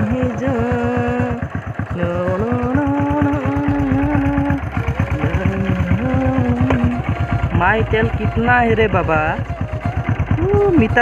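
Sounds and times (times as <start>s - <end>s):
motorcycle engine idling: 0.0s - 11.0s
music with sung melody: 0.0s - 11.0s.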